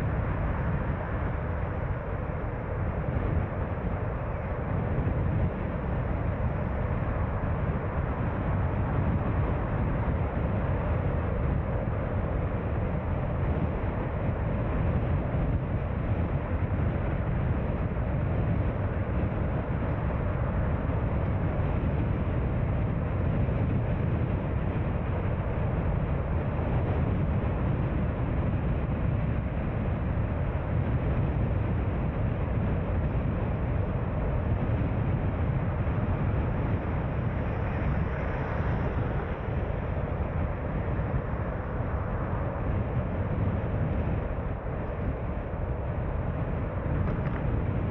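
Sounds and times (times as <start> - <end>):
car road noise: 0.0 - 47.9.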